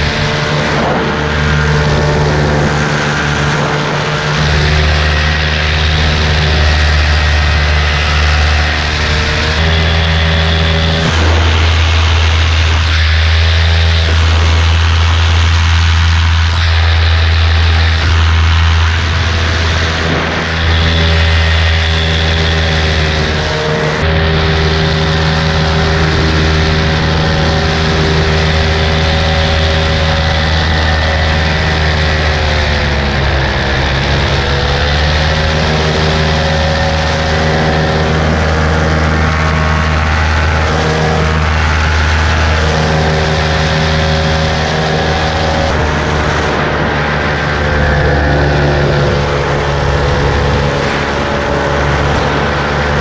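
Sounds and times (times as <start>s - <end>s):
paramotor engine and propeller: 0.0s - 53.0s
wind rushing over microphone: 0.0s - 53.0s.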